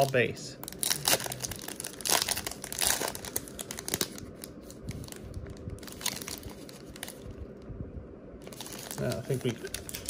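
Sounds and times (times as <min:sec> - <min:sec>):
wrapper crinkling and tearing: 0:00.0 - 0:07.2, 0:08.4 - 0:10.0.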